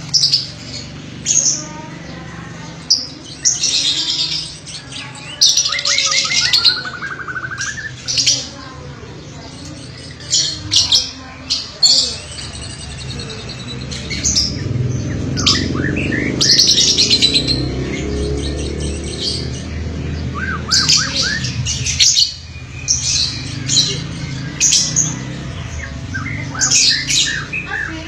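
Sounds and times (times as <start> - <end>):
lovebirds chirping and squawking: 0.0 - 28.0.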